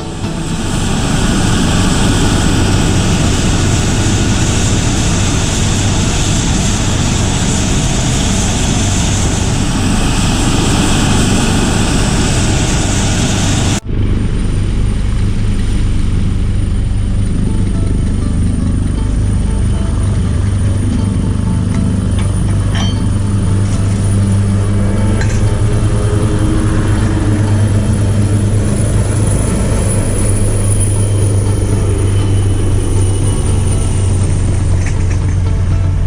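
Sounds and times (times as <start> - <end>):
aircraft engine running: 0.0 - 36.0.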